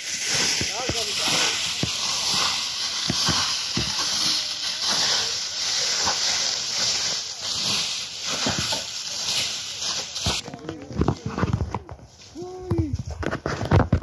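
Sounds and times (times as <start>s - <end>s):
fire burning with crackles: 0.0s - 14.0s.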